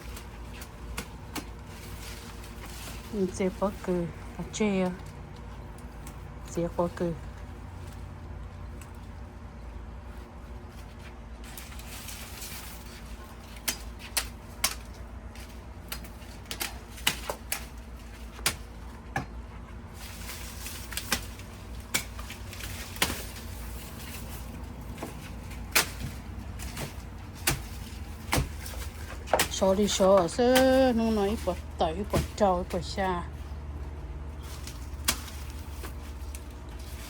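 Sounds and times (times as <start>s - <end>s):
husks snapping and cracking: 0.0s - 6.4s, 11.4s - 37.0s
corn husks rustling: 0.0s - 37.0s.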